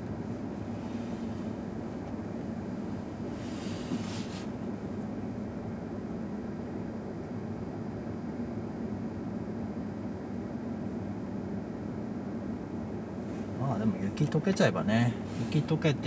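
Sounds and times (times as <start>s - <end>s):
car road and engine hum: 0.0s - 16.0s.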